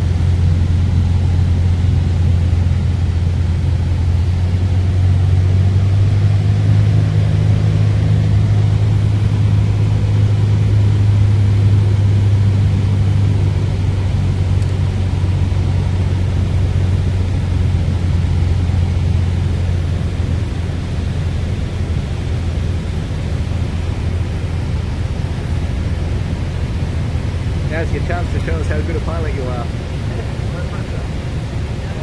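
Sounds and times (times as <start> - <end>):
propeller aircraft engine droning: 0.0 - 32.0.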